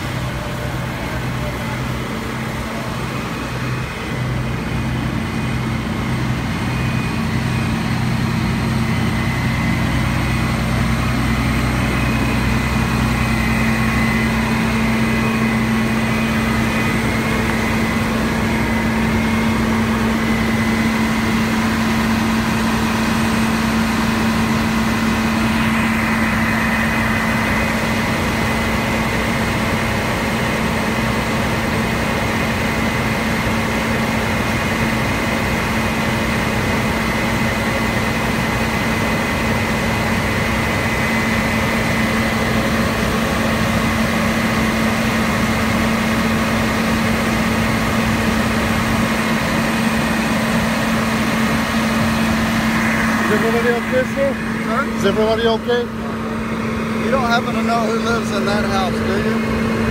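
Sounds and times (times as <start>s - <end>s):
diesel engine running pump: 0.0s - 59.9s.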